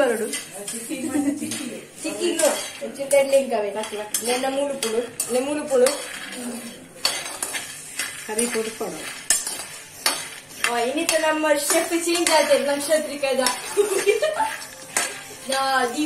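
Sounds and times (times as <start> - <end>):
metal spoon scraping pan: 0.0 - 16.0
peanuts rattling in metal pan: 1.5 - 16.0.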